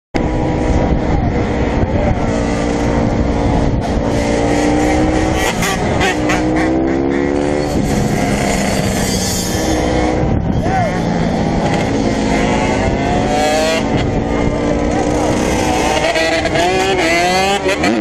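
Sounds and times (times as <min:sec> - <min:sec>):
dirt bike engines revving: 0:00.2 - 0:18.0.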